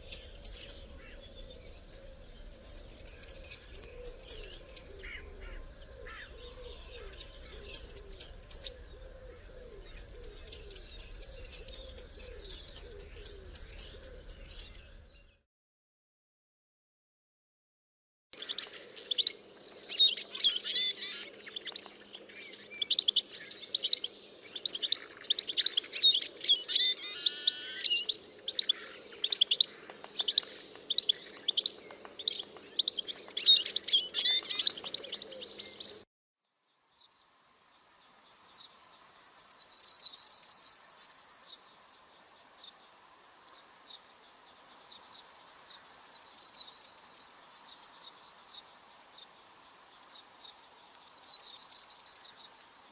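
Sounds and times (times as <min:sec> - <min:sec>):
small birds chirping and singing: 0:00.0 - 0:15.4, 0:18.4 - 0:52.9.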